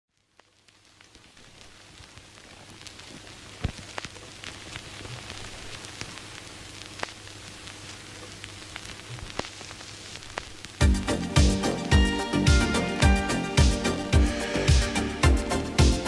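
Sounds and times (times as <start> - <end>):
vinyl crackles and pops: 0.1 - 16.0
vinyl surface hiss: 0.1 - 16.0.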